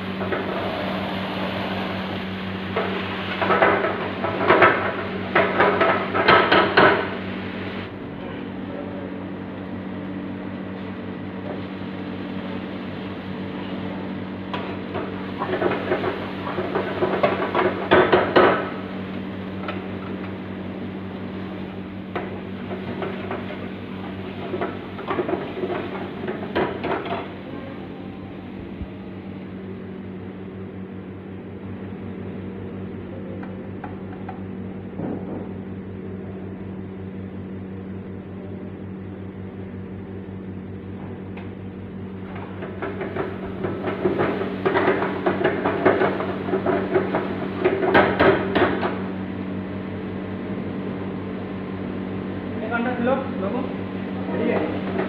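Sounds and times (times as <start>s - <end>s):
gas burner hum: 0.0s - 55.0s.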